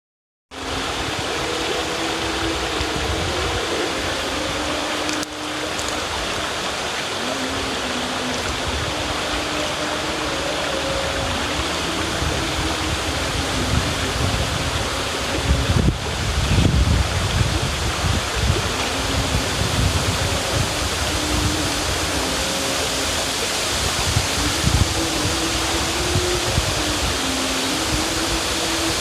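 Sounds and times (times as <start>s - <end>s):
river water rushing: 0.6s - 29.0s
faint low held notes: 0.7s - 29.0s.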